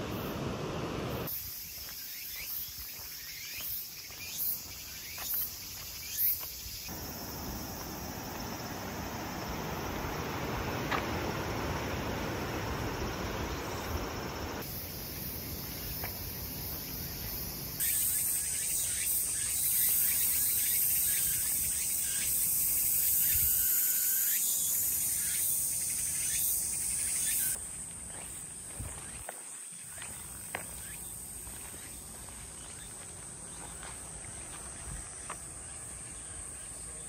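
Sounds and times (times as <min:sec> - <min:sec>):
insect chorus shrilling: 0:01.2 - 0:37.0.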